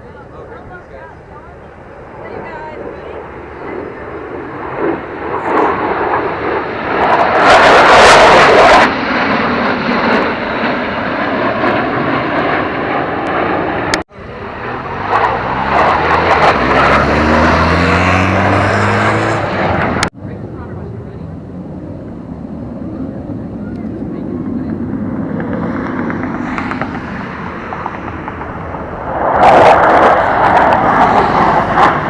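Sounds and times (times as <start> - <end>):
aircraft flying past: 0.0 - 32.0
aircraft tones rising in pitch: 0.0 - 32.0.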